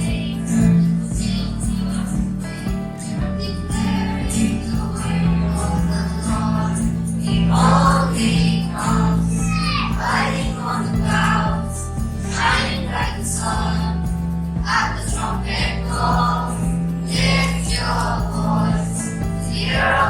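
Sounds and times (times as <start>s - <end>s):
children's choir singing: 0.0s - 20.0s
instrumental accompaniment: 0.0s - 20.0s.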